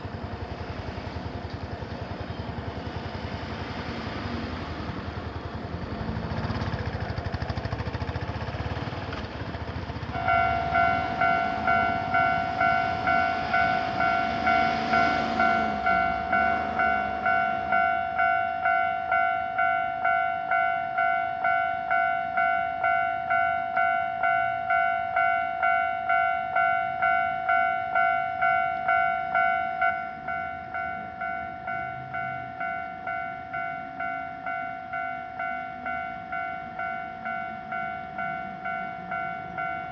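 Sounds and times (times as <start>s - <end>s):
level crossing warning bell: 0.0s - 39.9s
passing traffic: 0.0s - 39.9s.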